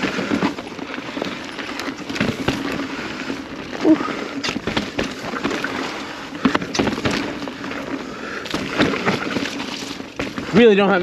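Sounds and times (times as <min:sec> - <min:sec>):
bike clacking over bumps: 0:00.0 - 0:11.0
bike tyres rolling on dirt: 0:00.0 - 0:11.0.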